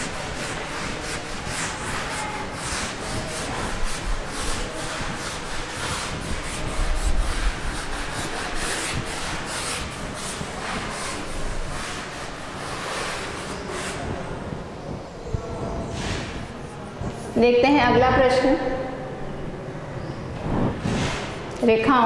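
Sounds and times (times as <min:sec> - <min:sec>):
duster rubbing on blackboard: 0:00.0 - 0:17.4, 0:20.5 - 0:21.4.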